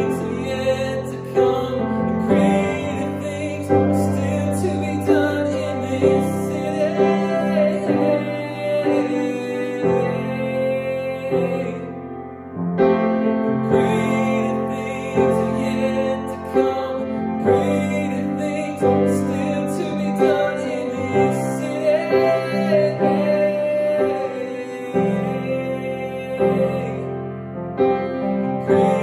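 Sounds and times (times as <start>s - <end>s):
man singing: 0.0s - 12.2s, 12.8s - 29.0s
piano chords: 0.0s - 29.0s.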